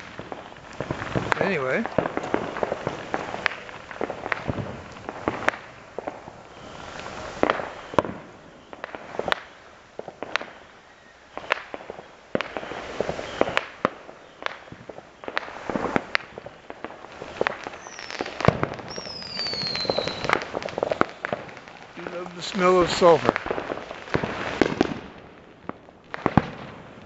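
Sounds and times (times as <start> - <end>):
whistling firework: 0.0 - 25.3
fireworks bangs and pops: 0.0 - 27.0.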